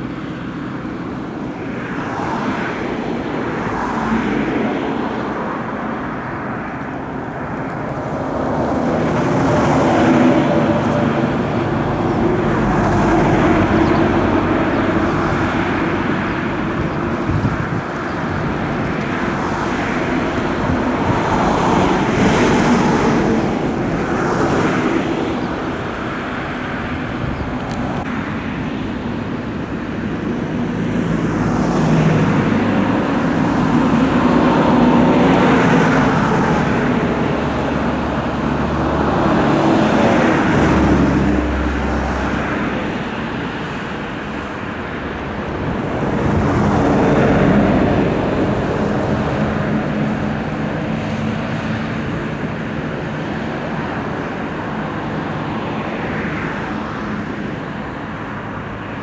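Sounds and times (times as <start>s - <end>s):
low engine hum: 0.0s - 58.9s
vehicles passing: 0.0s - 59.0s.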